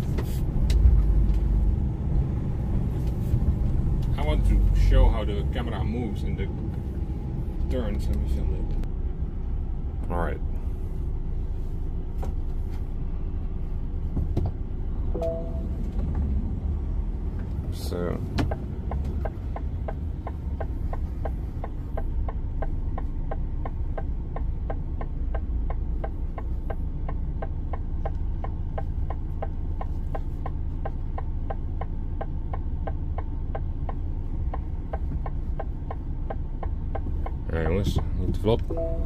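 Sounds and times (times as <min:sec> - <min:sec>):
truck engine drone: 0:00.0 - 0:39.0
turn signal ticking: 0:00.6 - 0:09.5, 0:13.4 - 0:39.0.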